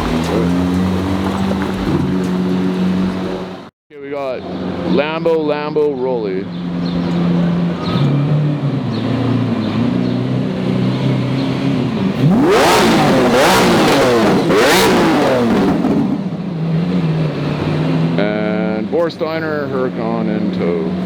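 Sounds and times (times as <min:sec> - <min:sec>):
sports car engine revving: 0:00.0 - 0:03.7, 0:06.4 - 0:21.0.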